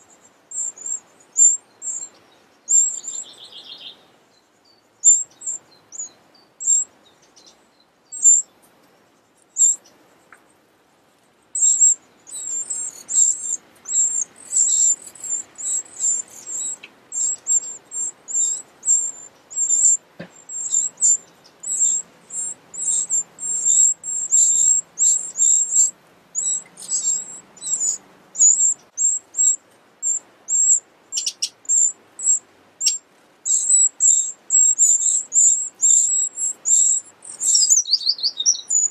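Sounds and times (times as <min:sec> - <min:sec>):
nestlings begging calls: 0:00.0 - 0:04.1, 0:04.7 - 0:08.8, 0:09.4 - 0:10.4, 0:11.5 - 0:38.9.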